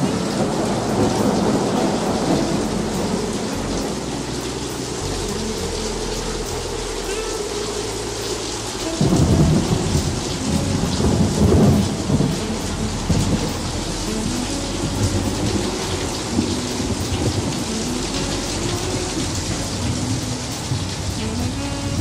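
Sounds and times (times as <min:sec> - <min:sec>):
steady rain falling: 0:00.0 - 0:22.0
thunder rumbling: 0:00.0 - 0:22.0.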